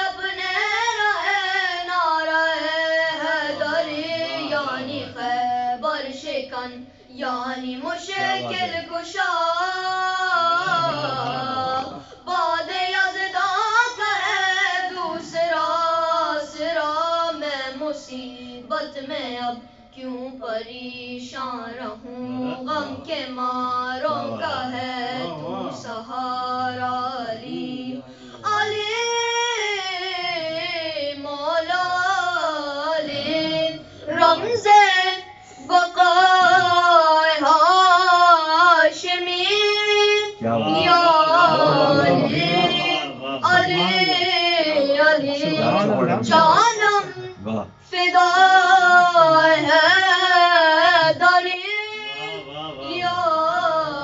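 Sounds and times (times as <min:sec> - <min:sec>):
boys singing unaccompanied: 0:00.0 - 0:54.0.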